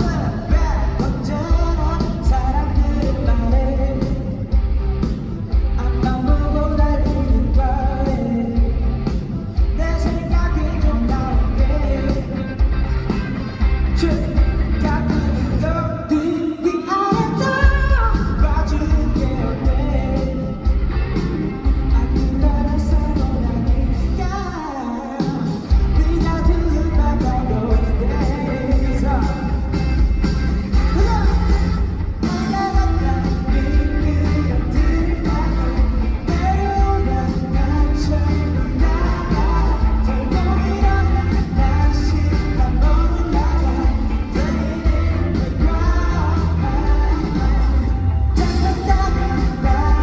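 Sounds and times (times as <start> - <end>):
bass guitar: 0.0 - 16.2, 17.6 - 24.7, 25.5 - 50.0
drums: 0.0 - 50.0
guitar: 0.0 - 50.0
man singing: 0.0 - 50.0.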